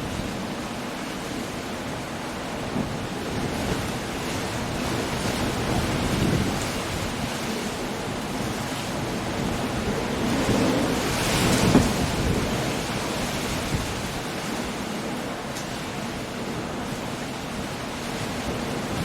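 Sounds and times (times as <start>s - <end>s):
rain: 0.0s - 19.0s
surf: 0.0s - 19.0s
wind: 0.0s - 19.0s.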